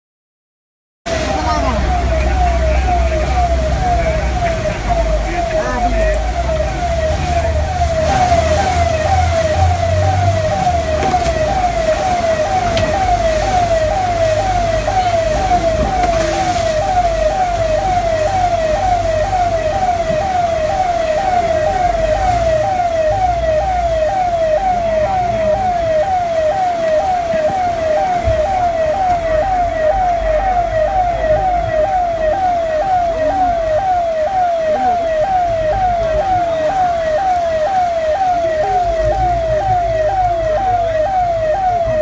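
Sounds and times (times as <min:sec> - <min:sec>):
siren with falling tone: 0:01.1 - 0:42.0.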